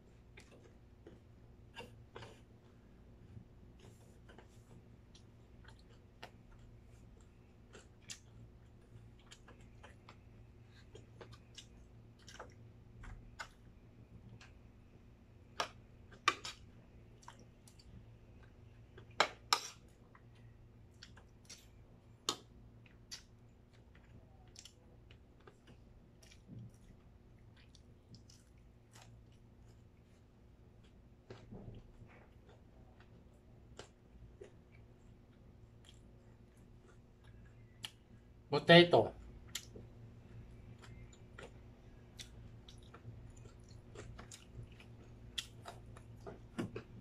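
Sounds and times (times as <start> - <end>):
chewing and mouth clicks: 3.7 - 14.8, 15.5 - 38.3, 39.2 - 47.0.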